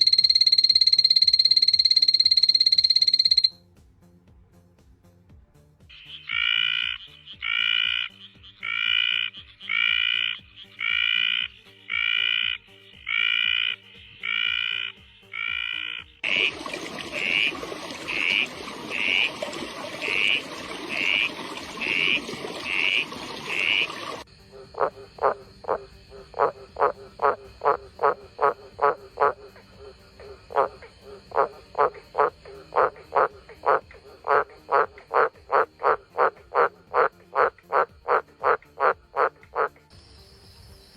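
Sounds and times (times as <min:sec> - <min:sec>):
frogs calling: 0:00.0 - 0:03.5, 0:05.9 - 0:39.9
frog clicking notes: 0:00.0 - 0:03.6, 0:05.9 - 0:39.9.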